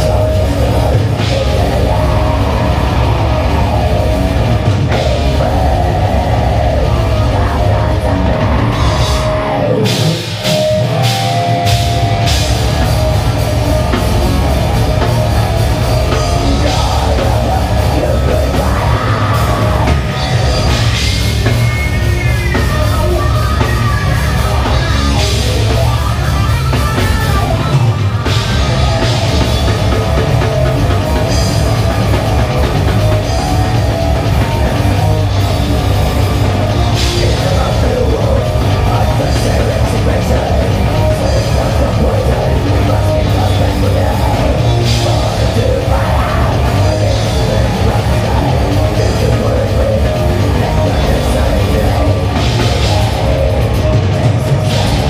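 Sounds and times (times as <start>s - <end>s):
bass guitar: 0.0s - 55.0s
distorted electric guitars: 0.0s - 55.0s
fast drumming on drum kit: 0.0s - 55.0s
ringing guitar line: 0.0s - 55.0s.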